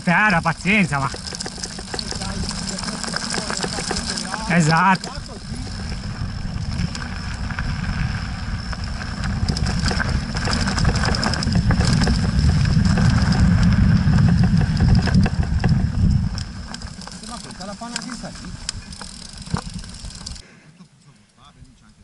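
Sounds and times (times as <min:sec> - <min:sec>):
bike rattling over stones: 0:00.0 - 0:20.4
tyres crunching on gravel: 0:00.0 - 0:20.4
wind buffeting microphone: 0:00.0 - 0:20.4.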